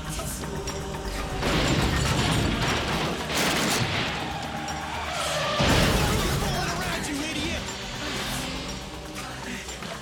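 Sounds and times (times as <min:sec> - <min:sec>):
driving music: 0:00.0 - 0:10.0
tyres skidding: 0:01.4 - 0:10.0.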